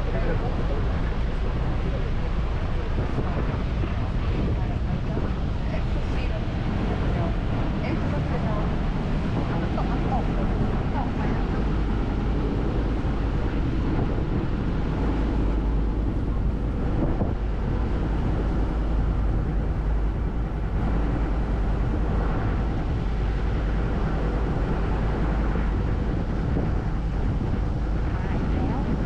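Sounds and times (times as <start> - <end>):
boat engine rumbling: 0.0 - 29.0
rushing waterfall: 0.0 - 29.0
wind buffeting microphone: 0.0 - 29.0.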